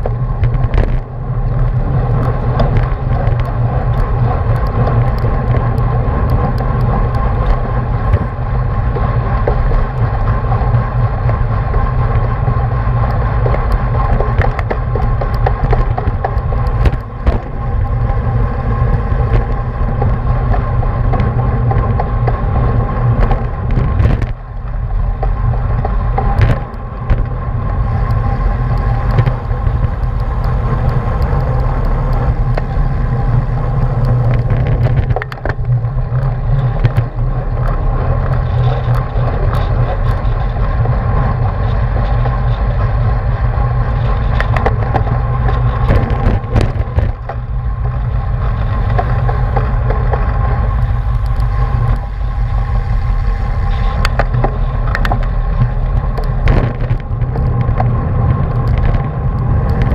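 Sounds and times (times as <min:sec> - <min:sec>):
bicycle clicks and rattles: 0:00.0 - 0:59.9
bicycle tyres and drivetrain hum: 0:00.0 - 0:59.9
wind rushing over microphone: 0:00.0 - 0:59.9.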